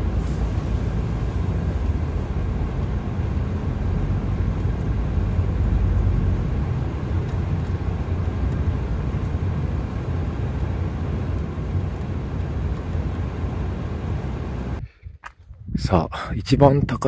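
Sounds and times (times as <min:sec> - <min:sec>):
car engine and road noise: 0:00.0 - 0:15.5.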